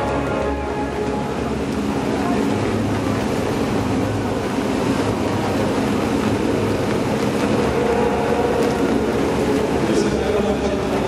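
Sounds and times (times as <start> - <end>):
crowd murmur: 0.0 - 11.0.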